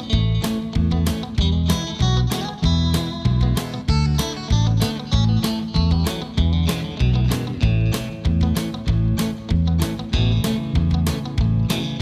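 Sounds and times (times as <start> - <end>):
guitar music with steady beat: 0.0 - 12.0.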